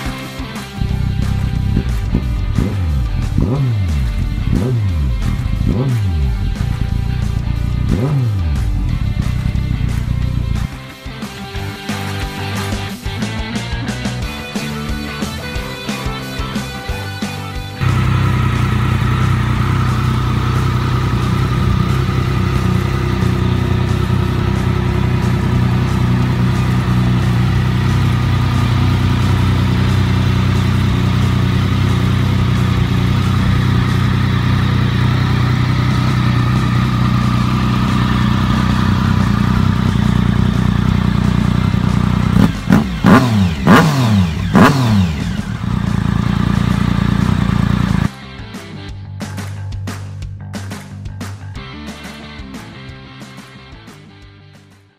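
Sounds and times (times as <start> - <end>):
motorcycle engine idling and revving: 0.0 - 48.2.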